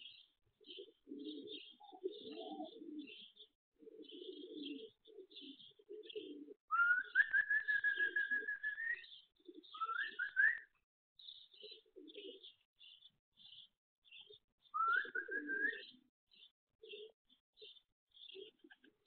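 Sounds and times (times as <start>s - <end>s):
pigeons cooing: 0.0s - 10.7s, 11.4s - 12.6s, 13.4s - 16.0s, 16.8s - 19.0s
small birds chirping: 0.0s - 19.0s.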